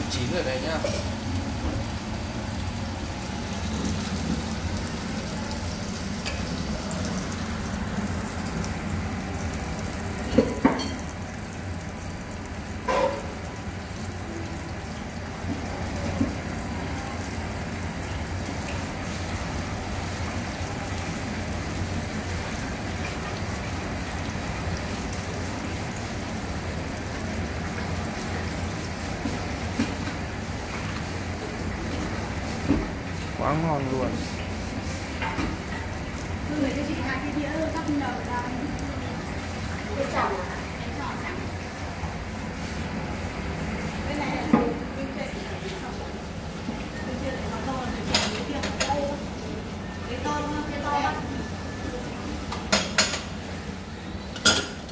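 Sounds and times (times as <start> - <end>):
food sizzling in hot oil: 0.0 - 54.9.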